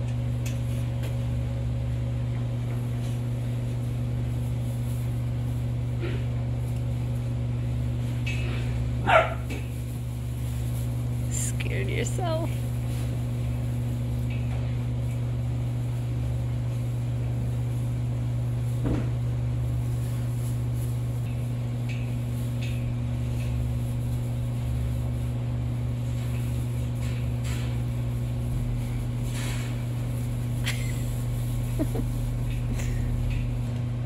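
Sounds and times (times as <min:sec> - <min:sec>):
steady low hum: 0:00.0 - 0:34.0
animals rustling in straw: 0:02.8 - 0:06.0, 0:06.6 - 0:33.7.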